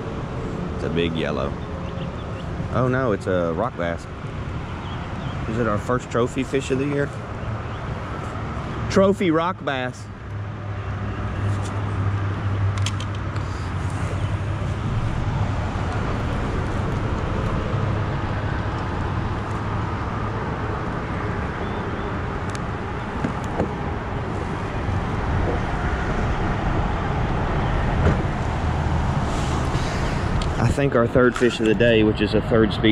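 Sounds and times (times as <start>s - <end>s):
traffic rumbling on bridge: 0.0s - 32.9s.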